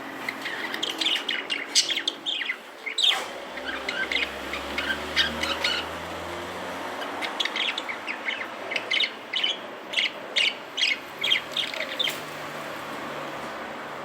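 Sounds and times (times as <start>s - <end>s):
parrots chirping: 0.0s - 13.9s.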